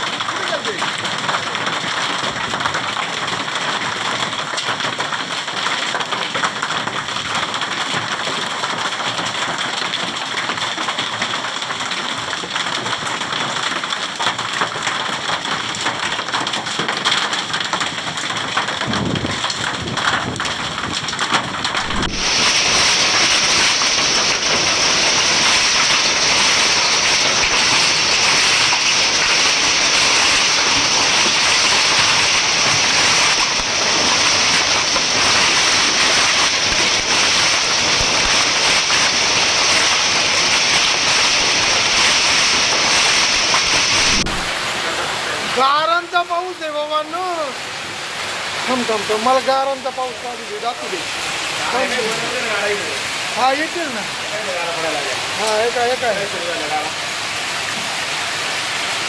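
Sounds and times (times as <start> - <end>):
rain and hail falling: 0.0 - 59.0.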